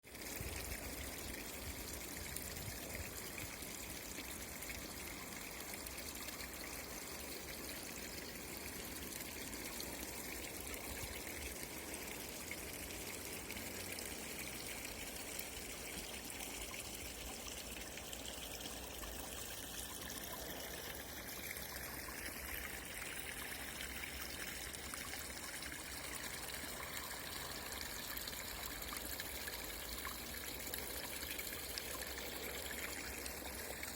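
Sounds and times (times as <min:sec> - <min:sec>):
spring water trickling: 0:00.0 - 0:33.9.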